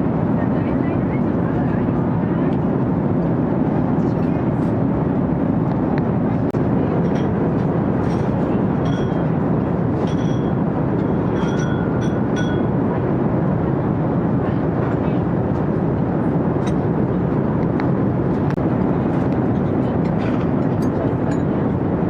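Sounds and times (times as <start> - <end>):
murmur of voices: 0.0 - 10.0, 14.2 - 22.0
low even rumble: 0.0 - 22.0.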